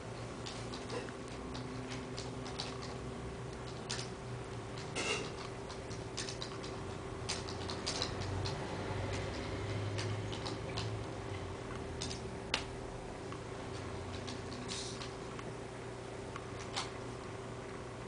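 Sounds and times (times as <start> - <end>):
rotating display stand humming: 0.0 - 18.0.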